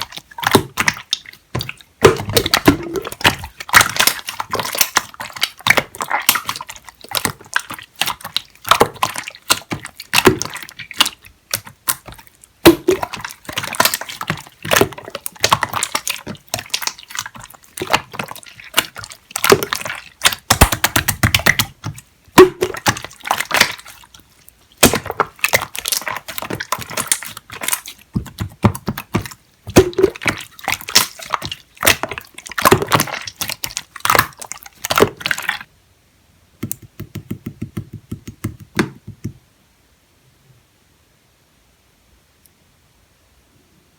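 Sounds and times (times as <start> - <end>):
slime squishing with wet clicks: 0.0 - 35.7.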